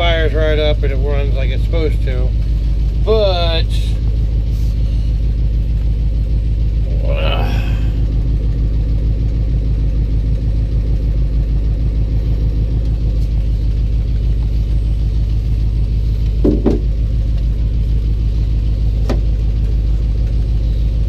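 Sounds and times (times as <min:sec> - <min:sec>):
truck engine idling with knock: 0:00.0 - 0:21.0.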